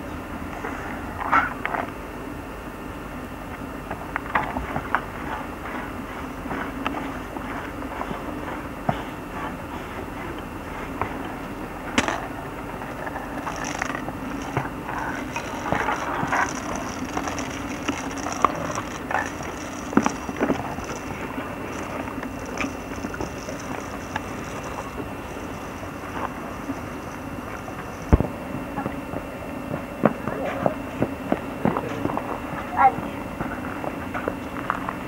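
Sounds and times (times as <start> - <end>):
steady low hum: 0.0 - 35.0
hooves on path: 4.3 - 32.7.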